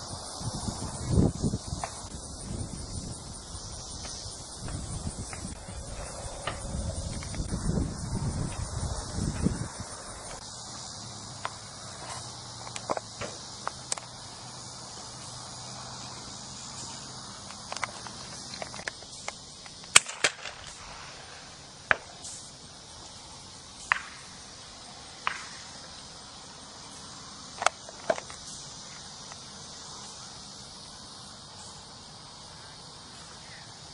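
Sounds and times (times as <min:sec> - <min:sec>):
high insect chorus: 0:00.0 - 0:33.9.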